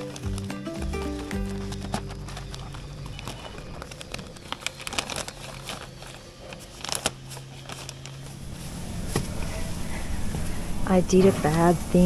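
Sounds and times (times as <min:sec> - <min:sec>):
wrapping rustling and crinkling: 0:00.0 - 0:10.2
low steady hum: 0:01.5 - 0:12.0.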